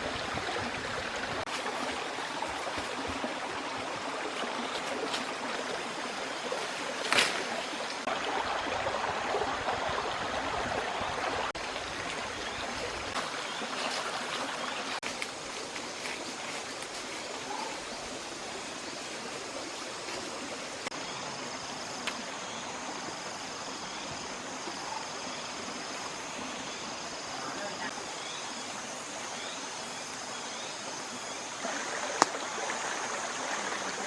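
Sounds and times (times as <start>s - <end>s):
stream water rushing: 0.0s - 29.2s, 30.3s - 34.0s.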